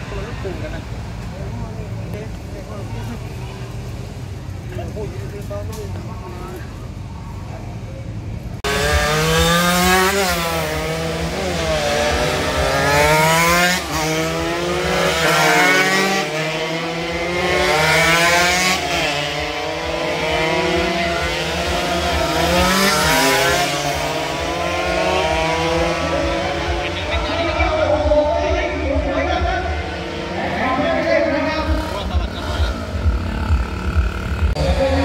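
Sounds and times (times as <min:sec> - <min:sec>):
racing motorcycles passing: 0:00.0 - 0:35.0.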